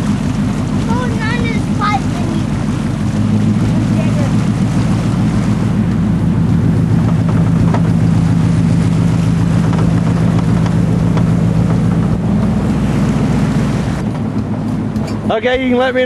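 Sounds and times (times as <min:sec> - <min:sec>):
pickup truck engine running: 0:00.0 - 0:16.0.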